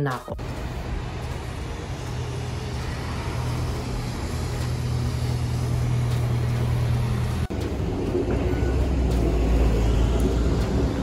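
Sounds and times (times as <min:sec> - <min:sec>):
bus engine hum: 0:00.0 - 0:11.0
road traffic: 0:00.0 - 0:11.0.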